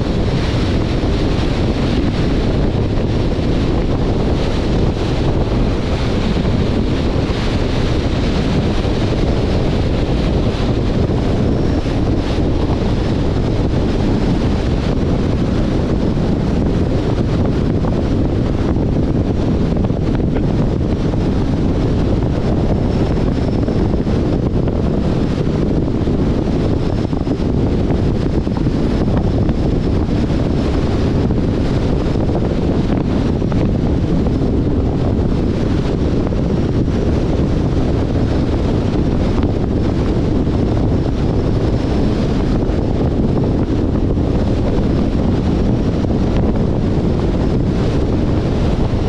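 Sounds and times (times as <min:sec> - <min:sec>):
road noise: 0:00.0 - 0:49.0
wind buffeting microphone: 0:00.0 - 0:49.0.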